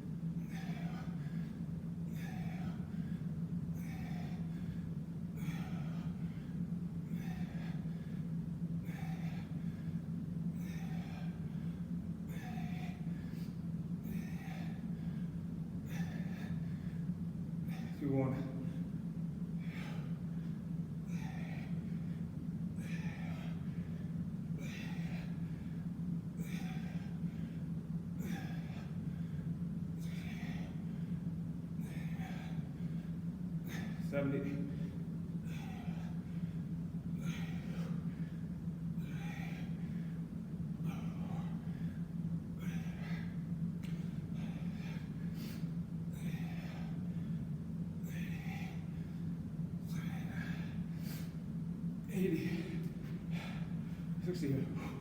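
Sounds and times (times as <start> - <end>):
man breathing hard: 0.0 - 55.0
steady low hum: 0.0 - 55.0.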